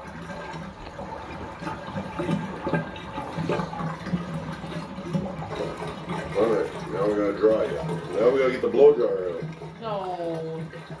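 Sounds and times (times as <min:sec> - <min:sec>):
water gurgling down a drain: 0:00.0 - 0:11.0.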